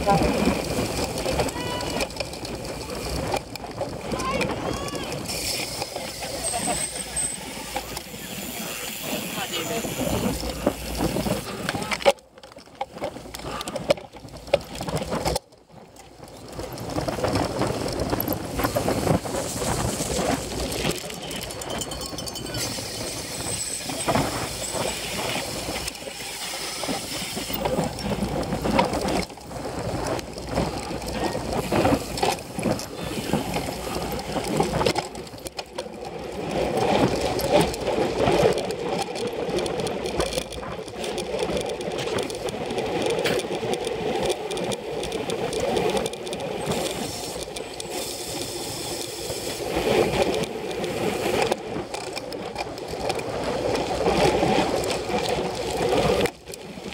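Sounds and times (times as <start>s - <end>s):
tyres rolling on pavement: 0.0s - 56.9s.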